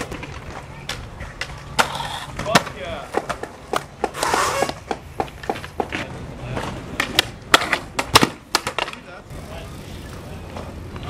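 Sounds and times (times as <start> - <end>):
skateboard wheels rolling: 0.0 - 11.0
skateboards clacking on concrete: 0.0 - 11.0.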